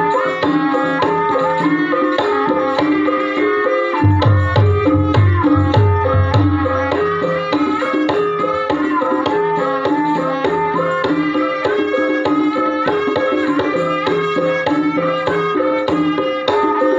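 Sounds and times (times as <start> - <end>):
hand drumming: 0.0 - 16.9
metallophones playing a melody: 0.0 - 16.9.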